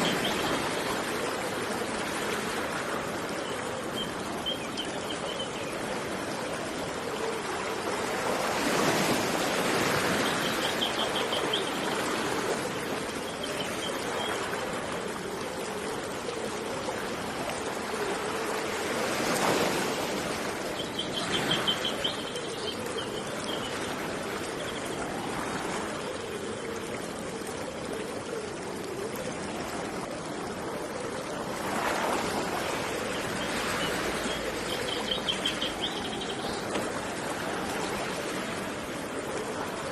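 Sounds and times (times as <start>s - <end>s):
running water of stream: 0.0s - 39.9s
sea waves washing in: 0.0s - 39.9s.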